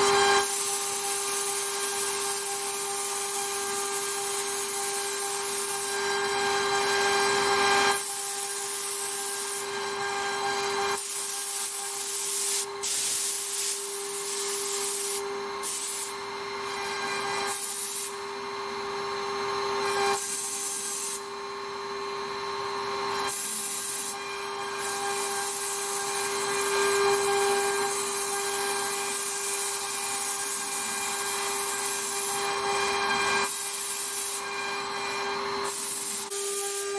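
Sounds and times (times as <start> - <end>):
router bit carving wood: 0.0 - 36.9.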